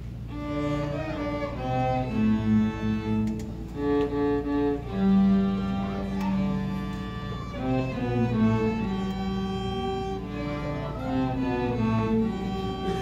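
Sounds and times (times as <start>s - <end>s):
string trio playing: 0.0s - 13.0s.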